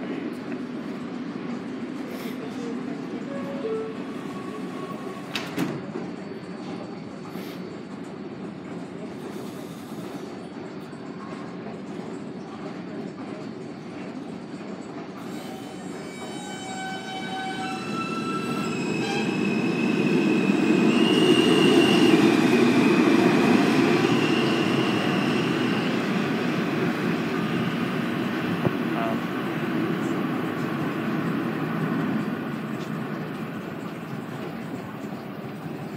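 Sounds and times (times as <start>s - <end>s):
subway traction motors whining: 0.0s - 35.9s.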